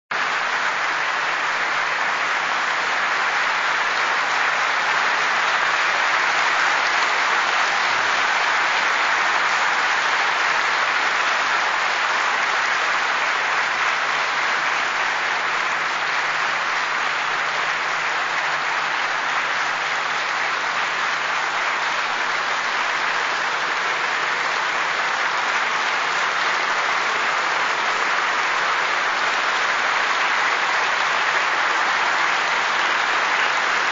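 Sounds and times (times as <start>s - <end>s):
audience applauding: 0.1s - 33.9s.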